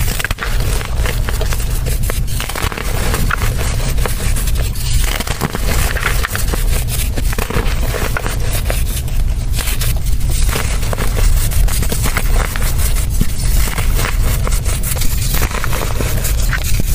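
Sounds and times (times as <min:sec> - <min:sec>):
soil crunching and crumbling by hand: 0:00.0 - 0:16.9
steady low rumble: 0:00.0 - 0:16.9.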